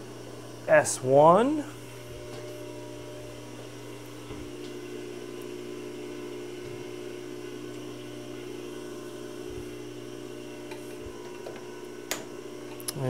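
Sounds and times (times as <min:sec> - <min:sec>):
shop machinery electrical hum: 0:00.0 - 0:13.0.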